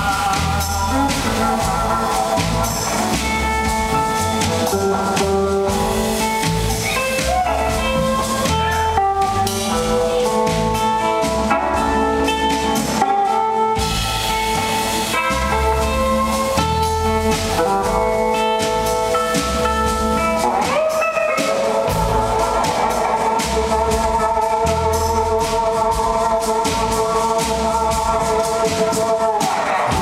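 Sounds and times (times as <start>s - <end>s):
bass guitar: 0.0s - 30.0s
drum kit: 0.0s - 30.0s
electric guitar gliding notes: 0.0s - 30.0s.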